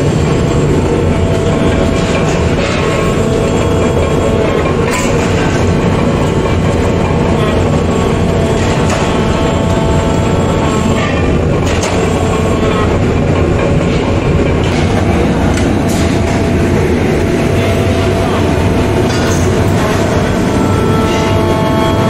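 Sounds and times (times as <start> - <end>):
metalworking machinery clatter: 0.0 - 22.0.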